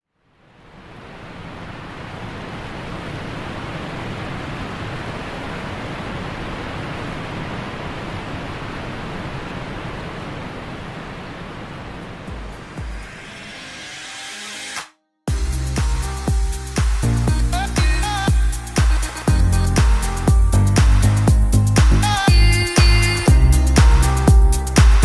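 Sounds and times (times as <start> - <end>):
waterfall and rapids rushing: 0.1 - 25.0.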